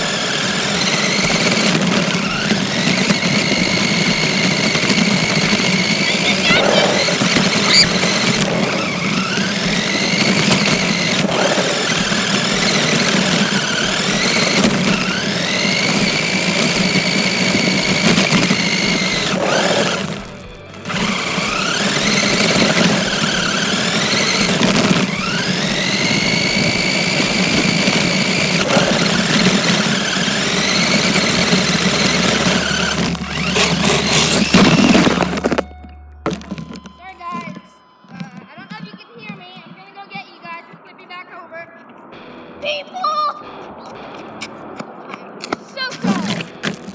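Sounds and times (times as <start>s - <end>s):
electric motor whining: 0.0s - 39.8s.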